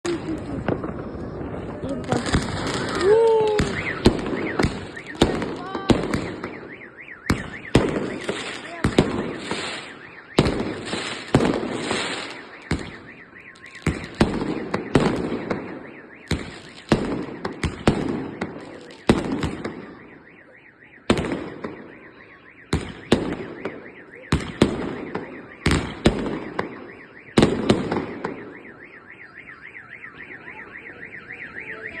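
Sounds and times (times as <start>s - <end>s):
fireworks bangs with echo: 0.0s - 31.7s
car alarm wailing: 0.0s - 32.0s.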